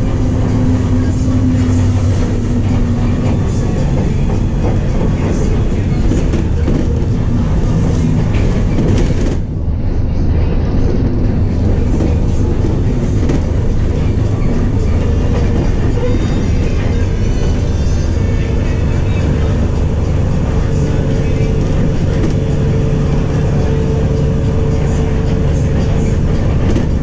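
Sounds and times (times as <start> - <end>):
bus engine drone: 0.0 - 27.0
high whine: 0.0 - 27.0.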